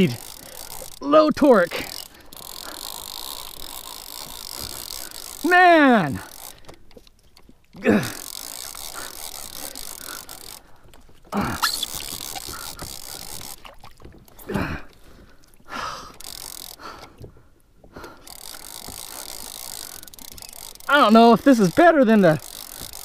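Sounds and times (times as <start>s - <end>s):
fishing reel cranking: 0.0s - 14.9s, 15.7s - 17.2s, 18.0s - 23.0s.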